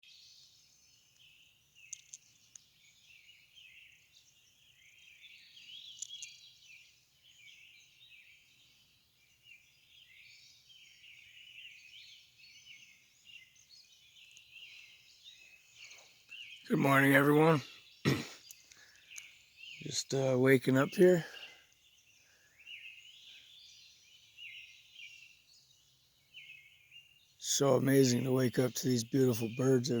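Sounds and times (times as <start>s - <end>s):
dawn chorus of birds: 0.1s - 30.0s.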